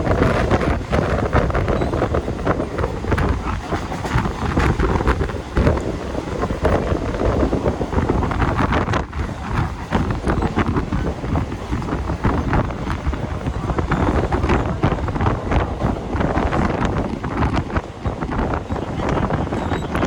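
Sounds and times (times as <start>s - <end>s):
train rumbling: 0.0s - 20.0s
wheels knocking and clicking: 0.0s - 20.0s
wind buffeting microphone: 0.0s - 20.0s.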